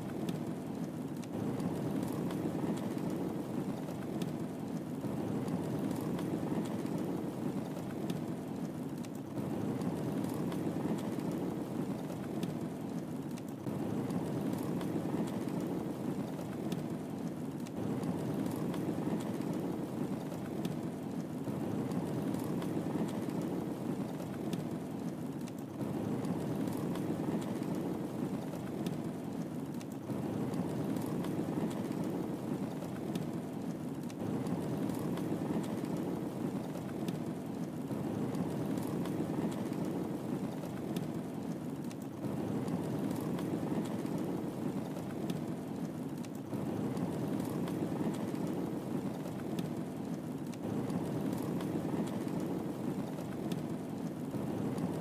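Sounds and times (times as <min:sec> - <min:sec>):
fire crackling and popping: 0:00.0 - 0:55.0
fire low rumble: 0:00.0 - 0:55.0.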